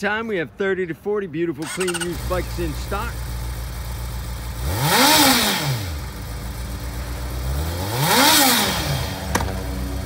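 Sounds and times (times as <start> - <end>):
motorcycle engine idling and blipping: 1.6 - 10.0.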